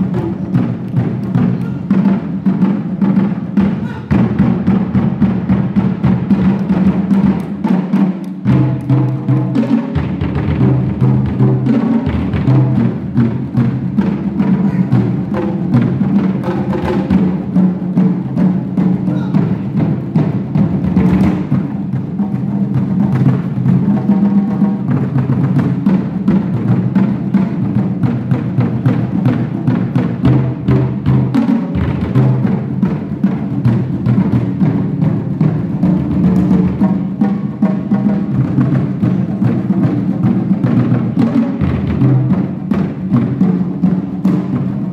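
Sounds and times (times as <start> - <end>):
ensemble drumming: 0.0 - 44.9.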